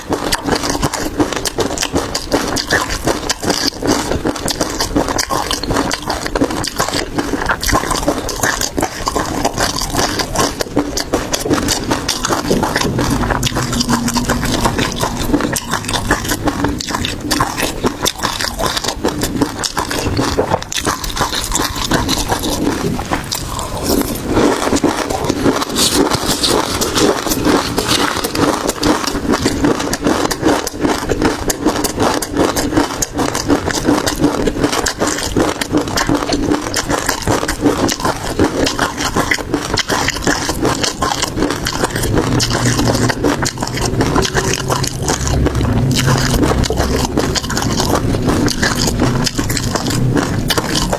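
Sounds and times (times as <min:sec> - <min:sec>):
crackling squelching chewing: 0:00.0 - 0:50.9.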